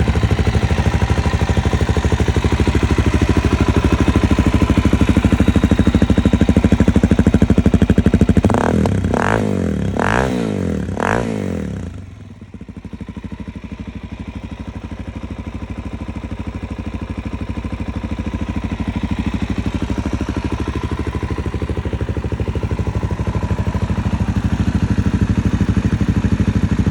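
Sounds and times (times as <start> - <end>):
motorcycle engine idling and revving: 0.0 - 26.9.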